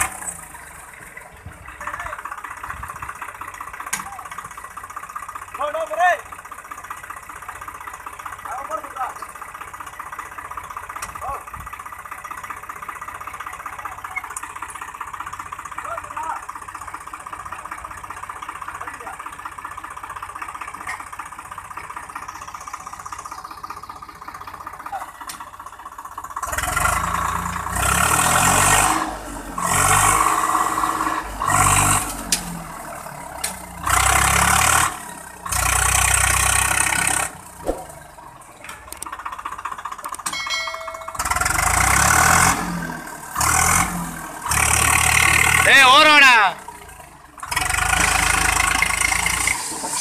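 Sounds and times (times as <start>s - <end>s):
tractor diesel engine revving: 0.0s - 50.0s.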